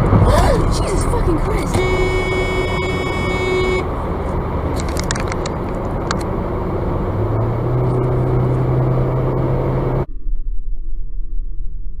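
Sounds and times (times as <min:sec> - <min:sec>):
moving vehicle road and engine noise: 0:00.0 - 0:10.1.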